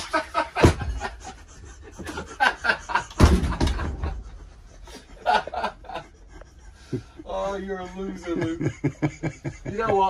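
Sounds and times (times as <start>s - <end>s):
men chuckling: 0.0s - 10.0s.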